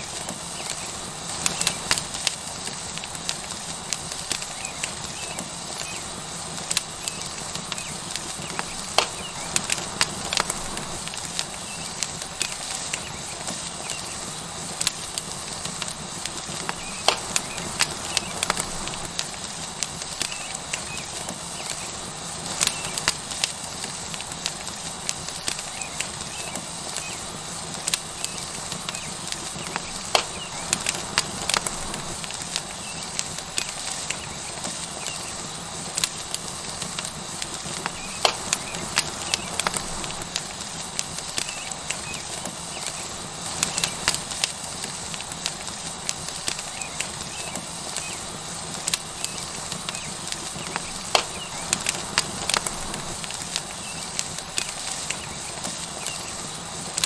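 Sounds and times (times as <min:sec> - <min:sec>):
burning wood crackling: 0:00.0 - 0:57.0
steak sizzling: 0:00.0 - 0:57.0.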